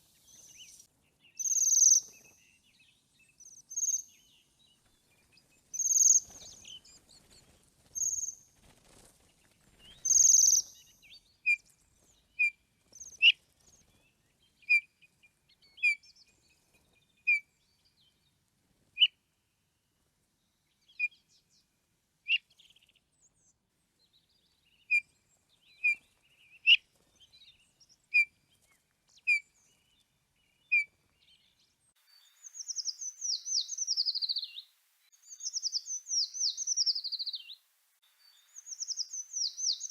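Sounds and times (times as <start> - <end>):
birds chirping: 0.0 - 8.4, 9.0 - 18.3, 24.2 - 37.6, 38.2 - 39.9.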